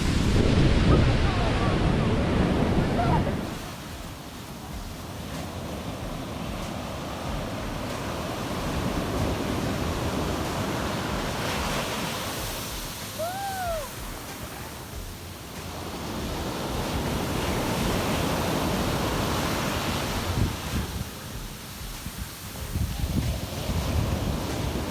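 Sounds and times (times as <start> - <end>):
sea waves breaking on beach: 0.0 - 24.9
wind buffeting microphone: 0.0 - 24.9.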